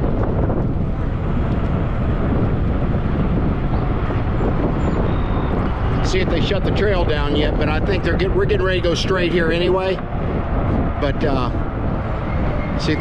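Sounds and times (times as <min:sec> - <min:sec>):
e-bike tyres rolling: 0:00.0 - 0:13.0
wind rush on microphone: 0:00.0 - 0:13.0.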